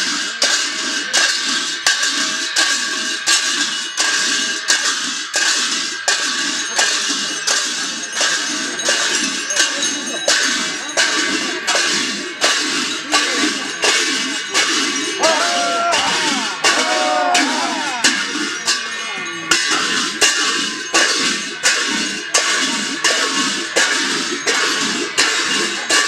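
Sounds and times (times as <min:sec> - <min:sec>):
hand cymbals clashing: 0:00.0 - 0:26.0
people's voices: 0:00.0 - 0:26.0.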